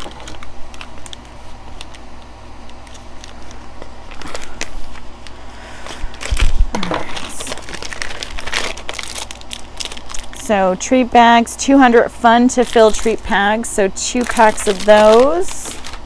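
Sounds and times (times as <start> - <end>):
plastic packaging crinkling: 0.0 - 10.4, 12.4 - 16.0.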